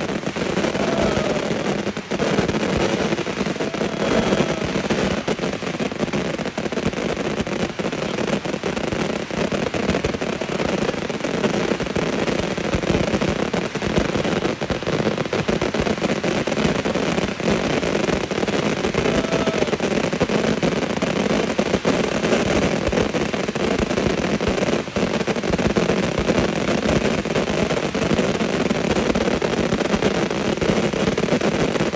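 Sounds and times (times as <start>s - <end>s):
fireworks bangs and crackle: 0.0s - 31.9s.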